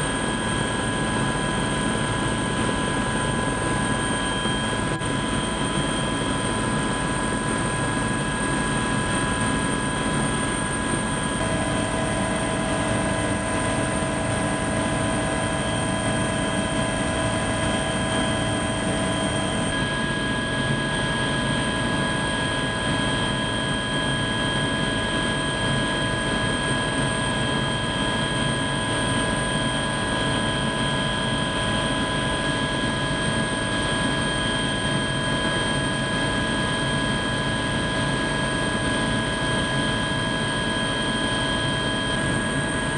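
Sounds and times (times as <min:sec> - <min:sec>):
helicopter engine and rotor noise: 0:00.0 - 0:42.9.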